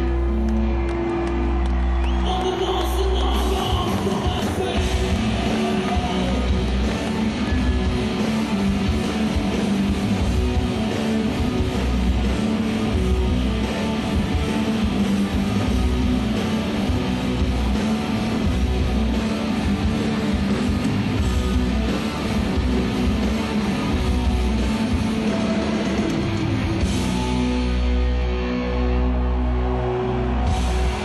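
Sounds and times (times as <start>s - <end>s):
live rock band playing: 2.2s - 31.0s.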